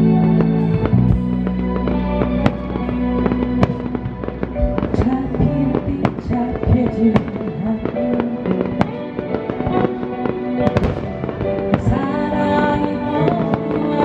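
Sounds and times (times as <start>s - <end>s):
live band playing slowly: 0.0s - 14.0s.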